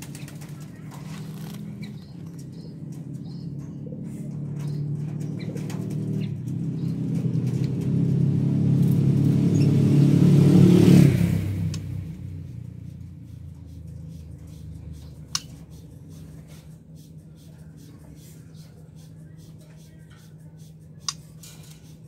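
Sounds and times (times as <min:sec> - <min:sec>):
vehicle engine: 0:00.0 - 0:22.0.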